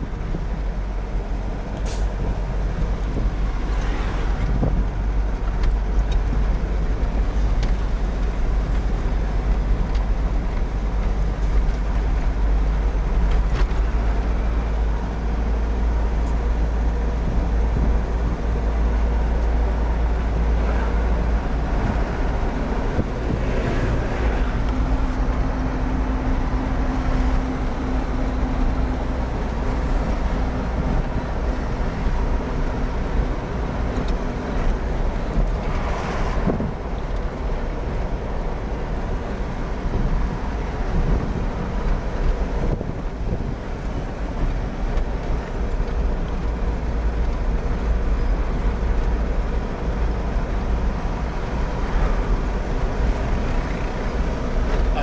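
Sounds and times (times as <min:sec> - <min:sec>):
low engine hum: 0:00.0 - 0:55.0
vehicle cab road rumble: 0:00.0 - 0:55.0.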